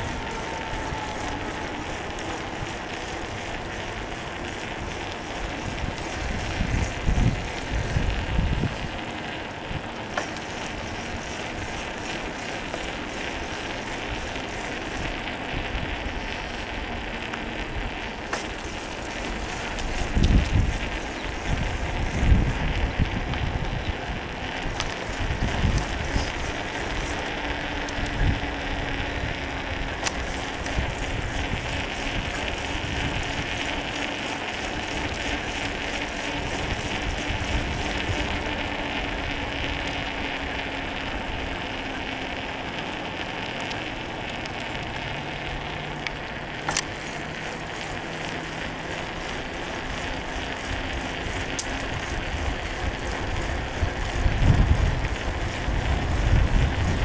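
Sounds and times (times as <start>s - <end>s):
bicycle tyres rolling on asphalt: 0.0s - 57.0s
bike rattling: 0.0s - 57.0s
wind rumbling on microphone: 0.0s - 57.0s.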